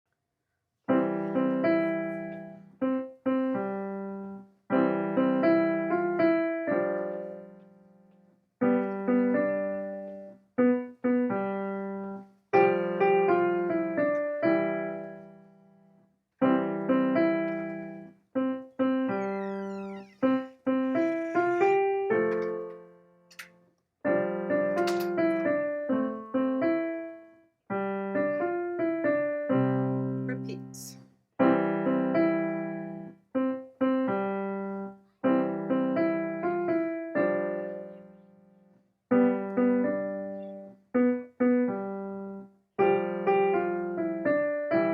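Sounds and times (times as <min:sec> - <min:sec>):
piano keyboard playing chords: 0:00.9 - 0:15.8, 0:16.4 - 0:23.5, 0:24.1 - 0:44.9.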